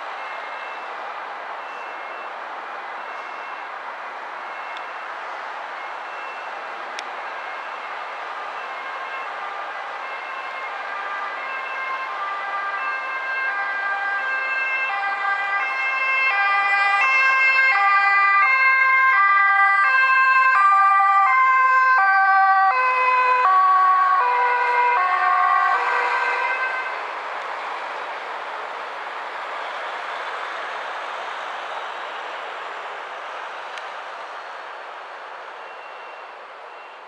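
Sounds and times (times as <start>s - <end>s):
two-tone ambulance siren: 0.0s - 37.0s.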